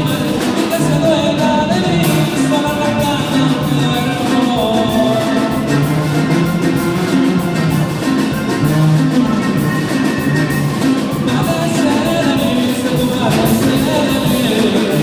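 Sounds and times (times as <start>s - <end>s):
instrumental regional folk music: 0.0s - 15.0s.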